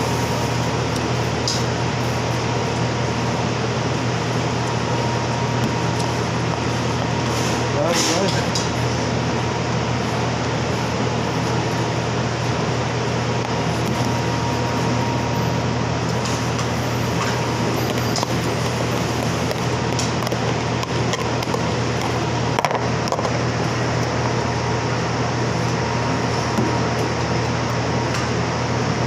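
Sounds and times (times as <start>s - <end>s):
mechanical hum with hiss: 0.0s - 29.0s.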